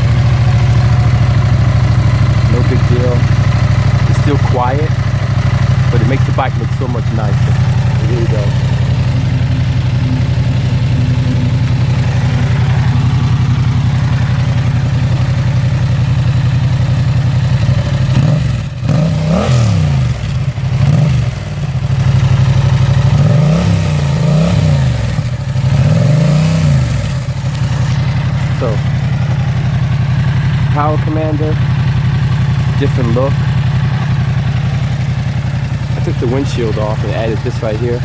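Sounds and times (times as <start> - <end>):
motorcycle engine idling and revving: 0.0 - 38.0.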